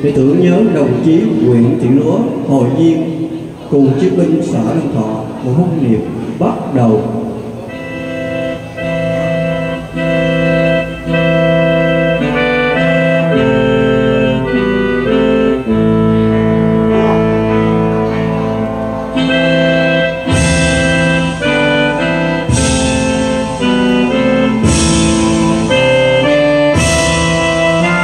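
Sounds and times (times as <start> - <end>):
solemn organ-style keyboard music: 0.0 - 28.0.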